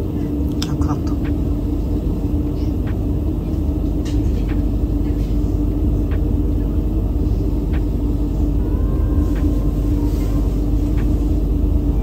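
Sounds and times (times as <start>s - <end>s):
train interior rumble and hum: 0.0s - 12.0s.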